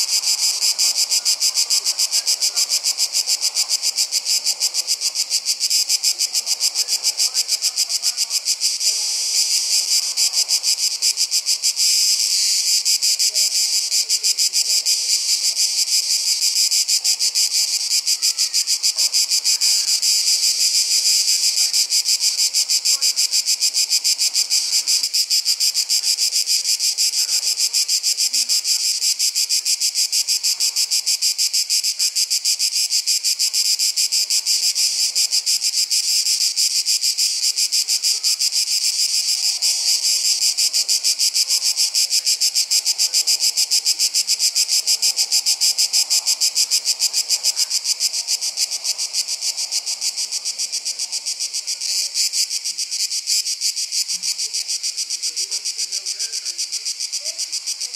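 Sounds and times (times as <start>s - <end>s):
insects buzzing: 0.0s - 57.9s.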